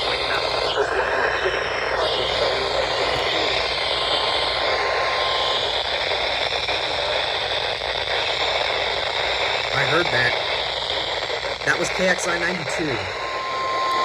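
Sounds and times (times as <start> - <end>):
faint wavering whine: 0.0 - 14.0
radio static hiss: 0.0 - 14.0.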